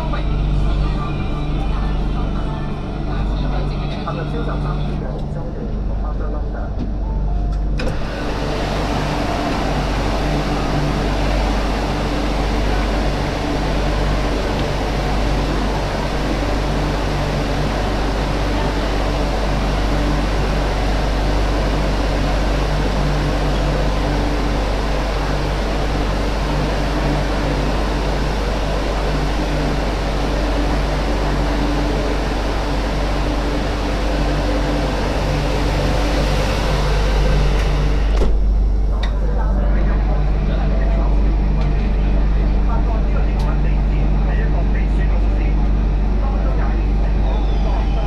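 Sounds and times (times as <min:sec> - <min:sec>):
low hum: 0:00.0 - 0:48.0
pulsing deep tone: 0:00.0 - 0:48.0
train running rush: 0:00.0 - 0:48.0.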